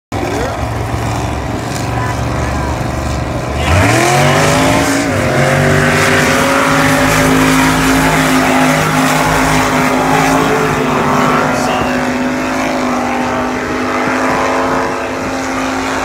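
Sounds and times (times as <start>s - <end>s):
low engine rumble: 0.1s - 16.0s
engine revving at full throttle: 0.2s - 16.0s
rushing noise: 0.7s - 16.0s.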